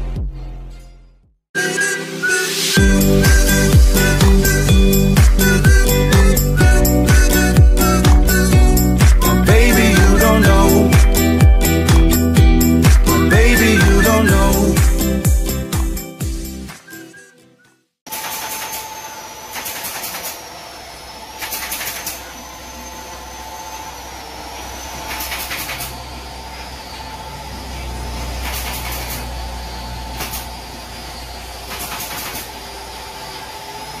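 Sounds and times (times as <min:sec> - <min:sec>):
machinery humming: 0:01.6 - 0:16.1, 0:18.2 - 0:34.0.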